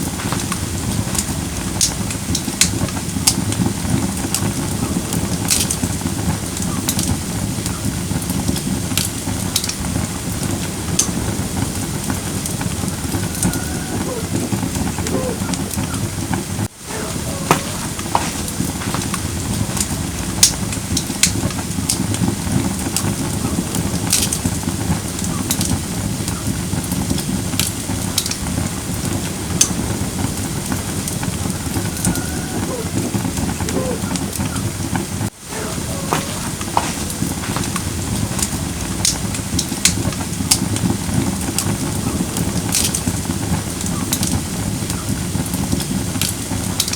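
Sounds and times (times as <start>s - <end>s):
fire flame rushing: 0.0s - 46.9s
logs popping and crackling: 0.0s - 46.9s.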